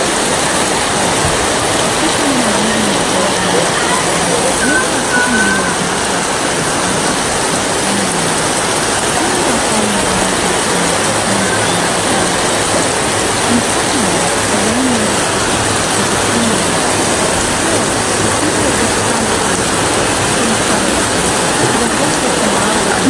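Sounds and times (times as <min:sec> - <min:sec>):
faint voices: 0:00.0 - 0:23.0
rushing water from heavy rain: 0:00.0 - 0:23.0.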